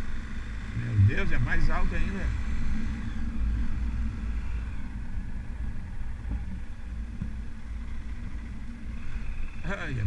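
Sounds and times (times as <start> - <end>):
motorcycle engine running: 0.0 - 10.0
wind rumble on microphone: 0.0 - 10.0.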